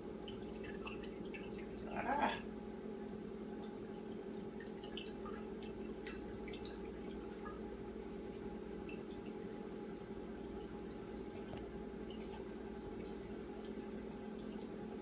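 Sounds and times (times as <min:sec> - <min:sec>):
juice dripping and squishing: 0:00.0 - 0:15.0.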